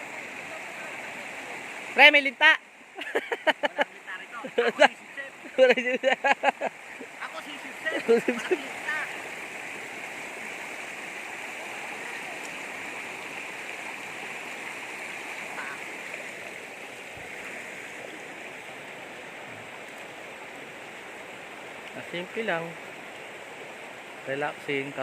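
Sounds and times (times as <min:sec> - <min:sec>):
river water babbling over stones: 0:00.0 - 0:25.0.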